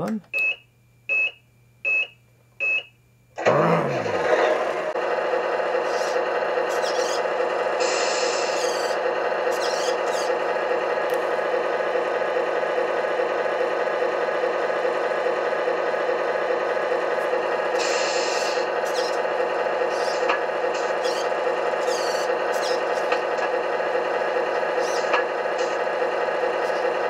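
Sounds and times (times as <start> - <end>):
simulated diesel engine idling: 4.5 - 27.0.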